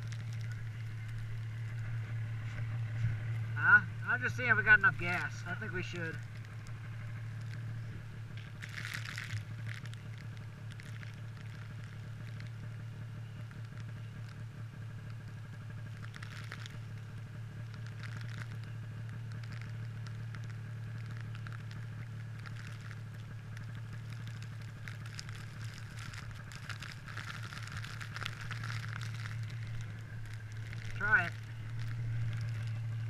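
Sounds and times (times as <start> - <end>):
crackling ticks: 0.0 - 33.0
snowmobile engine idling: 0.0 - 33.0.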